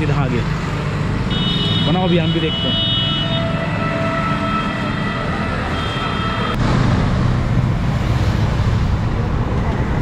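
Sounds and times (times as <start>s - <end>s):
motorbike engines rumbling: 0.0s - 10.0s.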